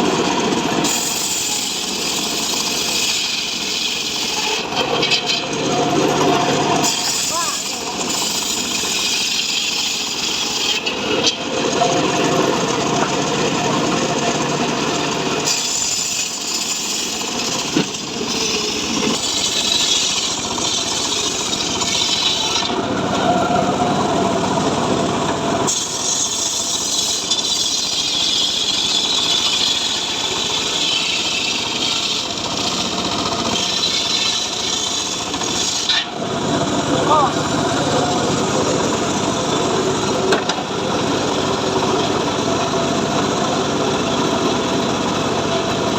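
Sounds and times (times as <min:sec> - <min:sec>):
sawmill sawing wood: 0:00.0 - 0:45.9.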